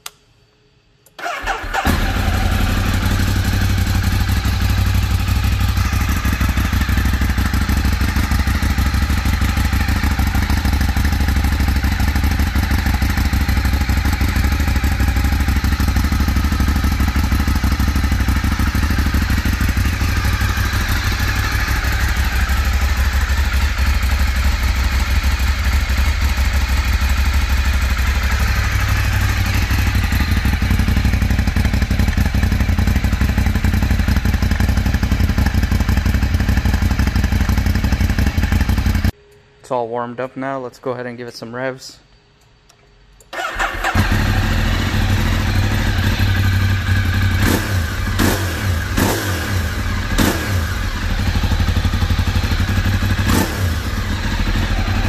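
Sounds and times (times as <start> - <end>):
motorcycle engine idling: 1.2 - 39.2, 43.4 - 55.0.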